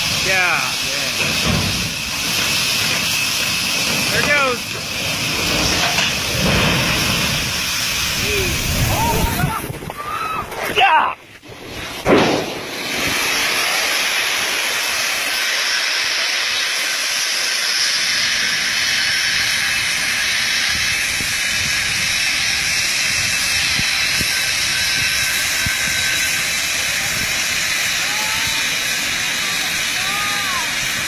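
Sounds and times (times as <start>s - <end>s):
corn pouring with hissing rush: 0.0s - 10.3s, 12.6s - 31.0s.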